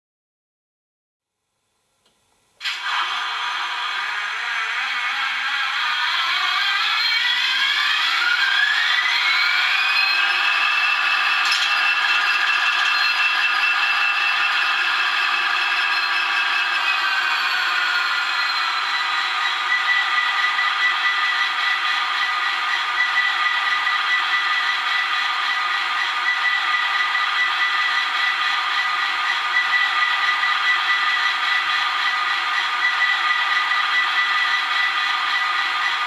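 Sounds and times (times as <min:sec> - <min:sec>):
constant high whine: 0:02.5 - 0:36.0.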